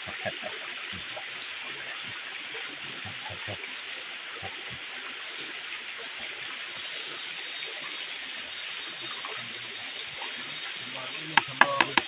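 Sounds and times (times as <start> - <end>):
stream rushing: 0.0 - 12.0.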